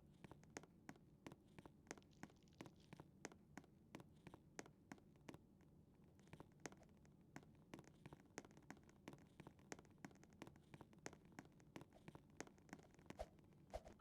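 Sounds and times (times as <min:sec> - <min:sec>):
faint small clicks and taps: 0:00.0 - 0:14.0.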